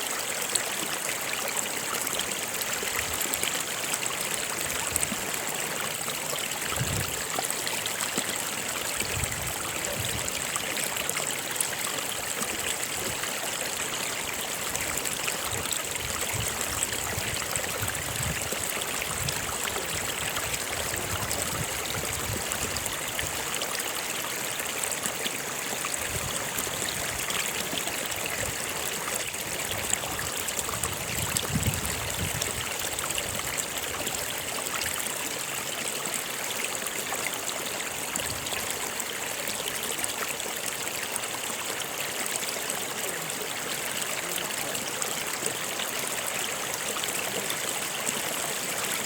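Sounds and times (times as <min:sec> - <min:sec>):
stream rushing and trickling: 0:00.0 - 0:49.0.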